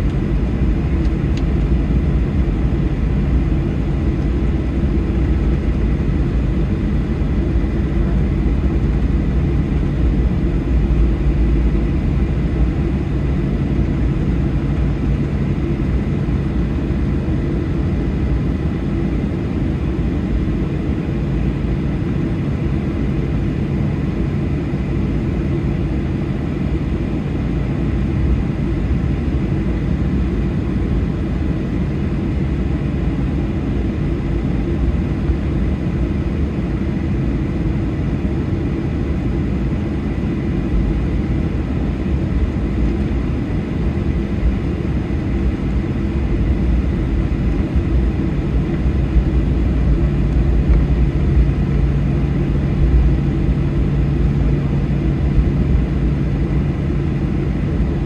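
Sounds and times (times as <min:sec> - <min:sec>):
faint high engine whine: 0:00.0 - 0:58.0
jet engines rumbling in cabin: 0:00.0 - 0:58.0.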